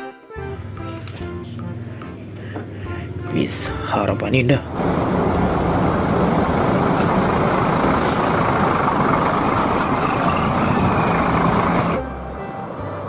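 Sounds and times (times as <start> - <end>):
bus engine running: 1.0 - 13.0.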